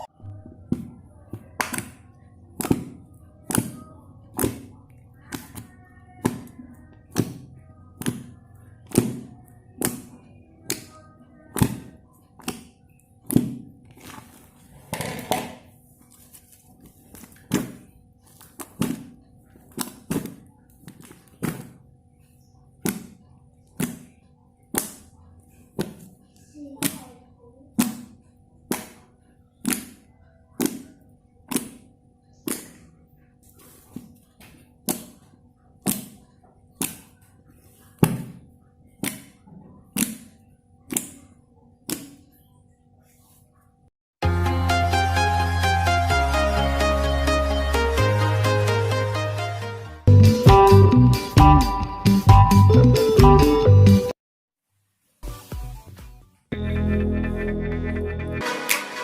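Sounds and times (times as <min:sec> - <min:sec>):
quiet background music: 0:00.0 - 0:54.2.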